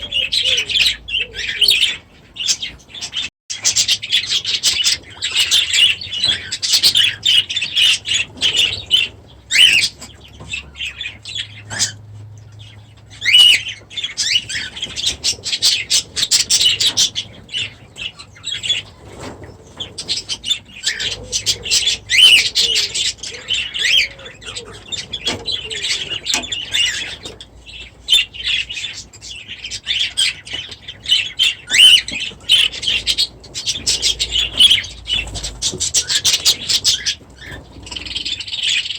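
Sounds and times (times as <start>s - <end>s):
flock of birds chirping and squawking: 0.0s - 38.9s.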